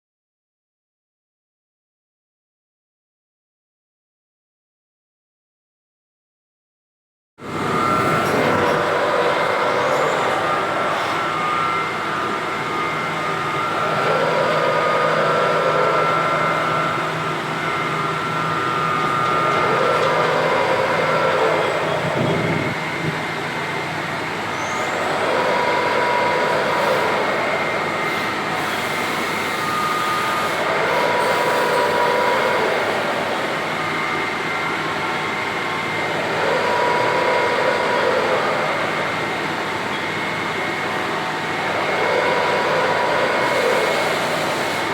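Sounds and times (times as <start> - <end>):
machining centre humming and whining: 7.4 - 44.9.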